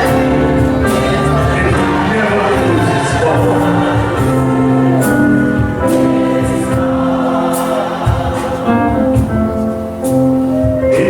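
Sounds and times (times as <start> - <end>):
choir singing a hymn: 0.0 - 11.0
instrumental backing: 0.0 - 11.0.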